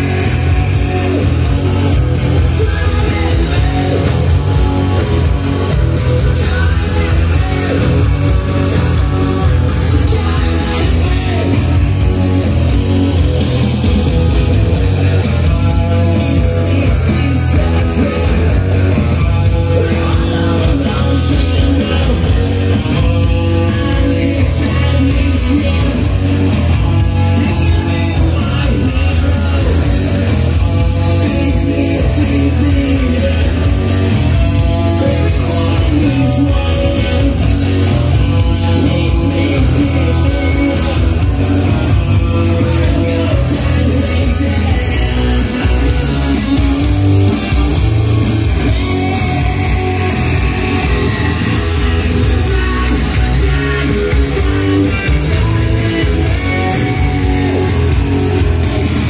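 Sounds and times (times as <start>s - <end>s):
rock song over speakers: 0.0s - 59.0s.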